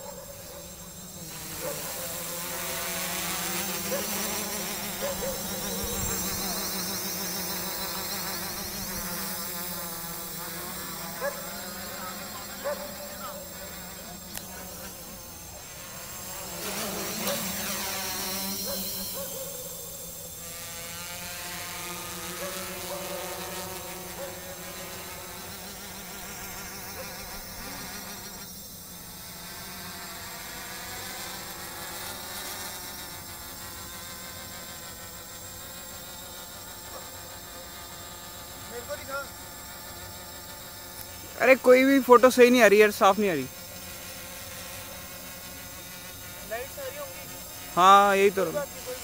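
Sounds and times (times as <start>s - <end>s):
quadcopter propellers buzzing: 0.0s - 49.0s.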